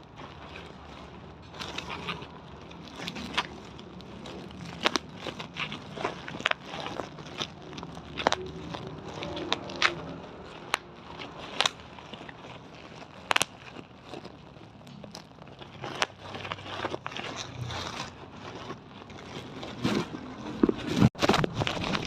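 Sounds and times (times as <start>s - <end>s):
faint steady background noise: 0.0s - 22.0s.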